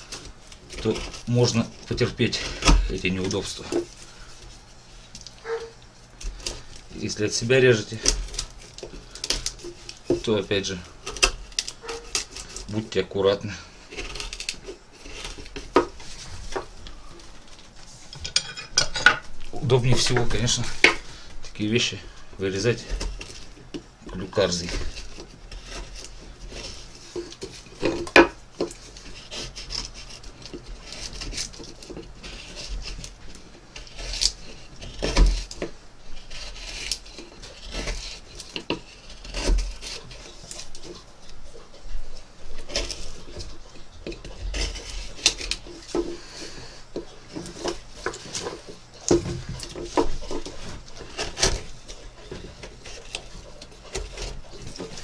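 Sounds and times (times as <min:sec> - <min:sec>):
gouge scraping wood: 0:00.0 - 0:04.8, 0:05.4 - 0:12.9, 0:13.8 - 0:19.0, 0:22.4 - 0:55.0.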